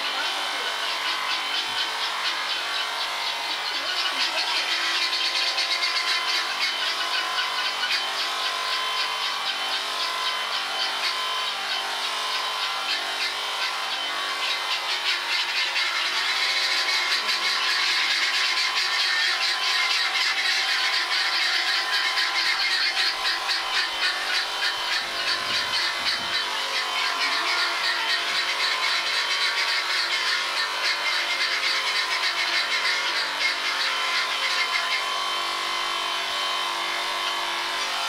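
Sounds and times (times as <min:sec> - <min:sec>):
electric sheep shears running: 0:00.0 - 0:38.0.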